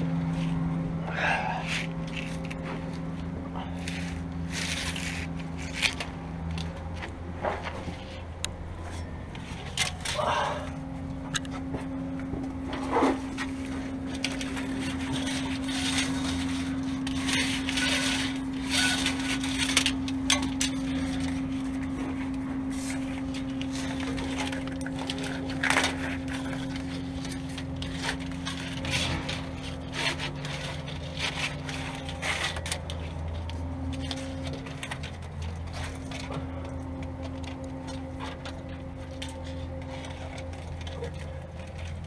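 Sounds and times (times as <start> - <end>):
steady low hum: 0.0 - 42.0
wiring harness rustling and clicking: 1.6 - 3.0, 3.8 - 42.0.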